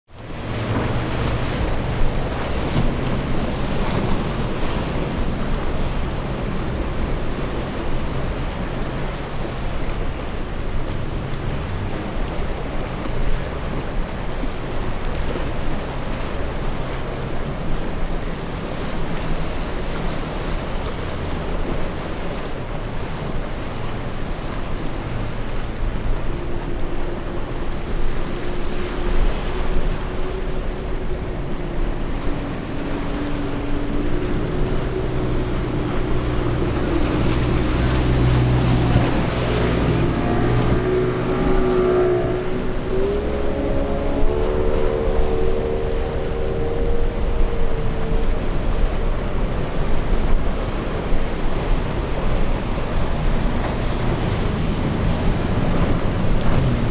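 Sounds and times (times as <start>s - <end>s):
outboard motors droning: 0.1s - 56.9s
waves breaking and churning: 0.1s - 56.9s
wind on microphone: 0.1s - 56.9s.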